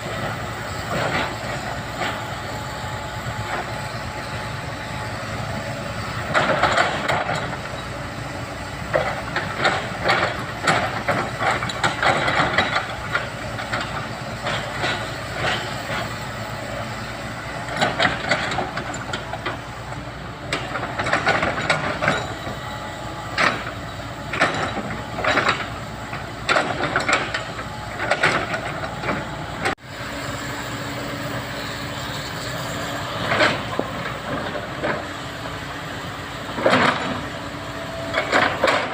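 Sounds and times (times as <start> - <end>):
excavator engine running: 0.0 - 38.9
scraping and clatter of digging: 0.0 - 38.9.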